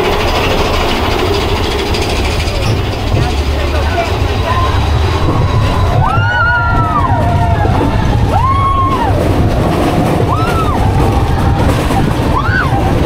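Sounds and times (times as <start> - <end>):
roller coaster rumbling on track: 0.0 - 13.0
riders whooping: 1.6 - 13.0.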